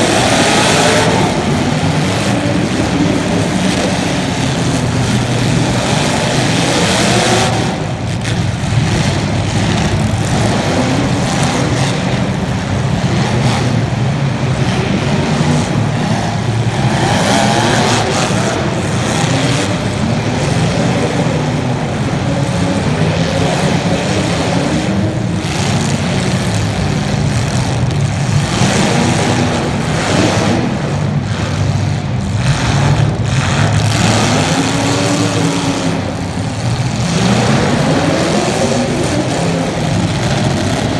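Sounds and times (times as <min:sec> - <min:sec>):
race car engines revving: 0:00.0 - 0:40.9.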